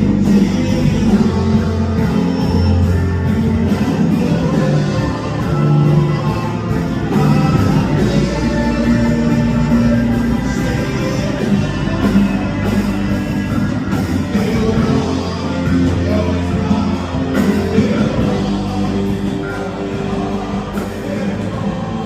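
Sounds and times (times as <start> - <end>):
gospel band playing: 0.0 - 22.0
guitar: 0.0 - 22.0
person singing: 0.0 - 22.0.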